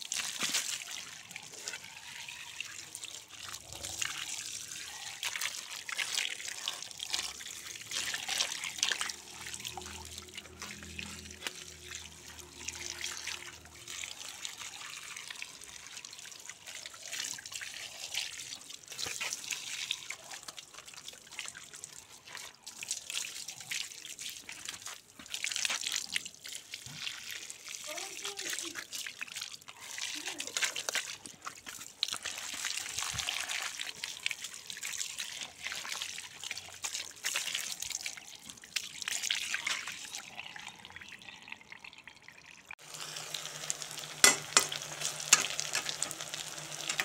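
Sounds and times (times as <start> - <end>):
water pouring from a hose: 0.0 - 47.0.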